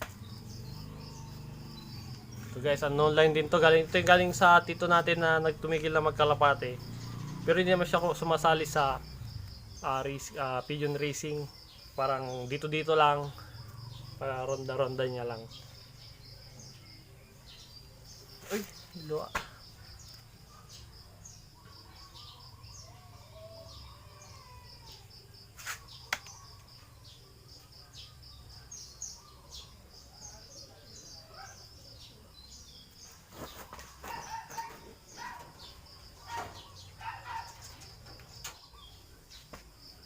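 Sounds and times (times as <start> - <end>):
bird chirps: 0.0 - 40.0
pulsing insect trill: 0.0 - 40.0.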